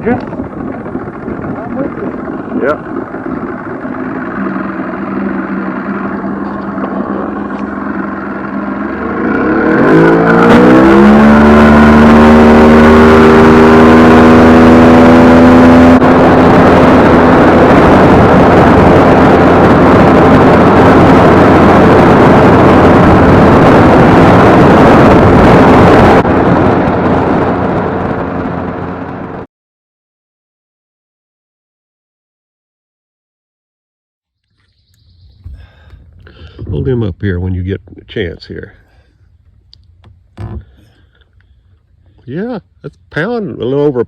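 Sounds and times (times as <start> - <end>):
boat motor: 0.0 - 29.4, 34.6 - 44.0.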